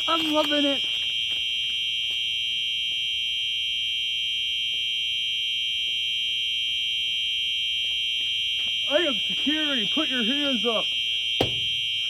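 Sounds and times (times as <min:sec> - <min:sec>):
fire alarm tone: 0:00.0 - 0:12.0.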